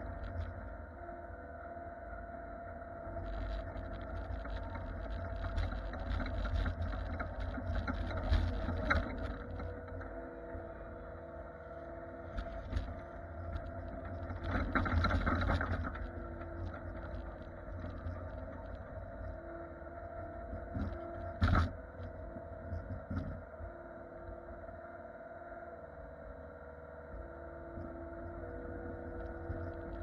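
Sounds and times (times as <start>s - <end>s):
engine running steadily: 0.0s - 25.7s, 27.0s - 30.0s.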